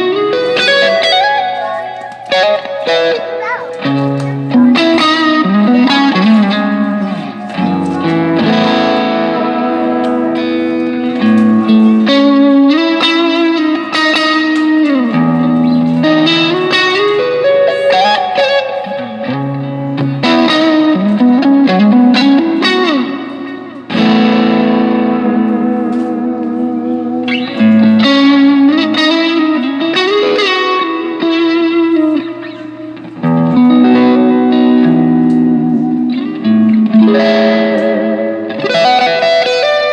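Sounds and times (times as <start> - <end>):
electric guitar with reverb: 0.0 - 39.9.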